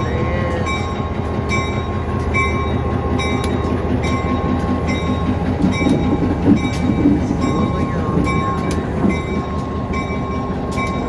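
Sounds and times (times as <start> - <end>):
diesel engine rumble: 0.0 - 11.0
locomotive bell ringing: 0.0 - 11.0.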